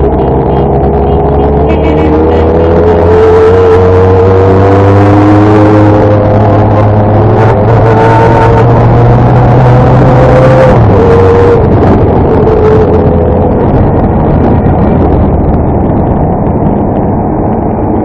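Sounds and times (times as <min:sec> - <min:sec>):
motorcycle engine running: 0:00.0 - 0:18.0
wind rushing over microphone: 0:00.0 - 0:18.0.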